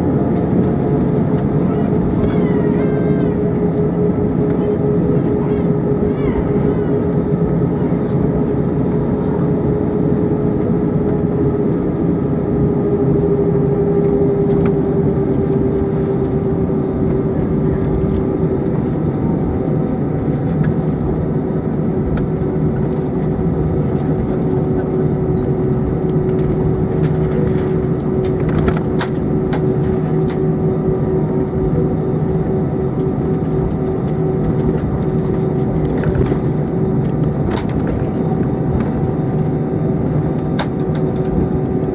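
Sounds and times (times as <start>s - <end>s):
jet engines and air conditioning hum: 0.0s - 41.9s.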